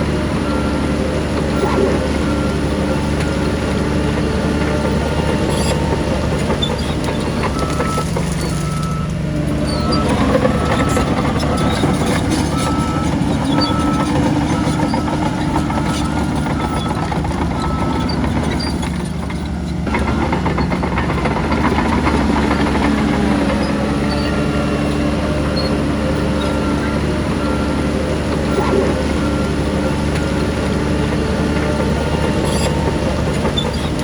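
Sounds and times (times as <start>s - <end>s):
reversing alarm beeping: 0.0s - 18.9s, 20.0s - 34.0s
heavy diesel machinery running: 0.0s - 34.0s.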